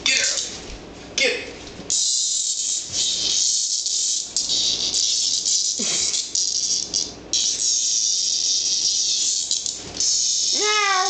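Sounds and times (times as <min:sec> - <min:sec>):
cicada buzzing: 0:01.9 - 0:11.0.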